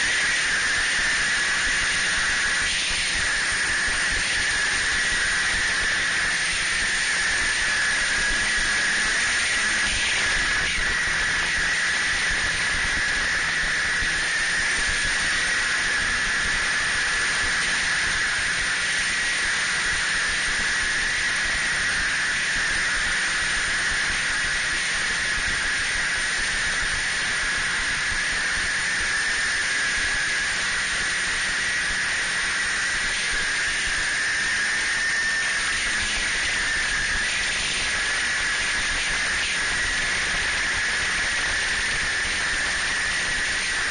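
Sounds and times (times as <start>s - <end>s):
snowmobile engine drone: 0.0s - 43.9s.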